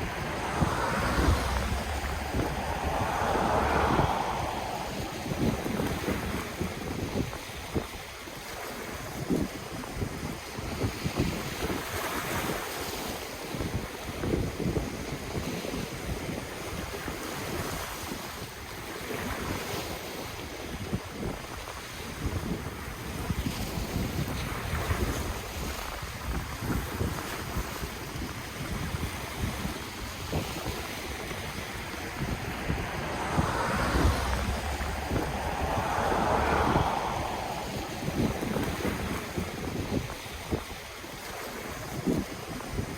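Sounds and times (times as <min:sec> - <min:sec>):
ocean waves breaking: 0:00.0 - 0:42.9
wind buffeting microphone: 0:00.0 - 0:42.9.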